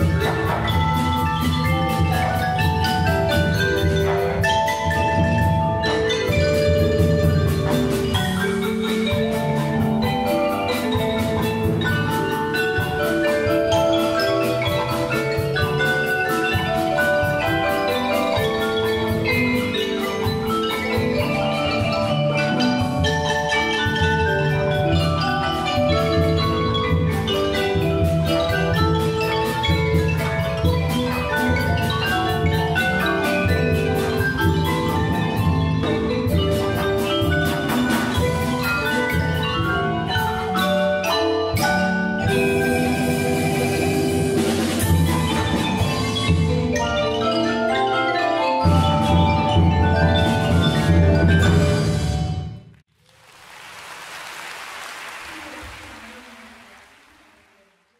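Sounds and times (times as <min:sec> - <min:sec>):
marimba melody: 0:00.0 - 0:52.8
low percussion: 0:00.0 - 0:57.9.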